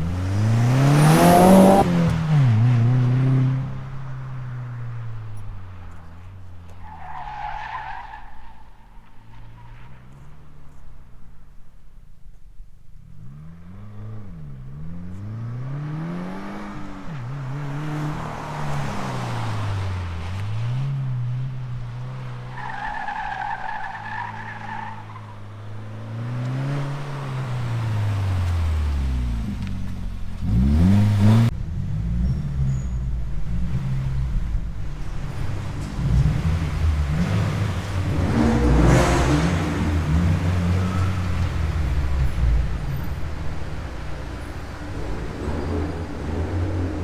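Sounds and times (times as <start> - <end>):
car engine revving: 0.0 - 11.4, 13.0 - 47.0.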